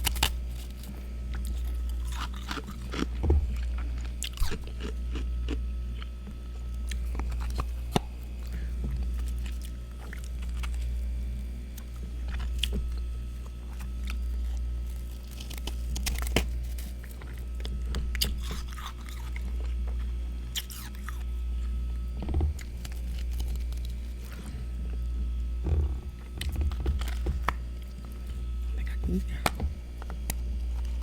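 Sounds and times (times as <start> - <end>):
frost being bitten and chewed: 0.0 - 31.0
low hum: 0.0 - 31.0.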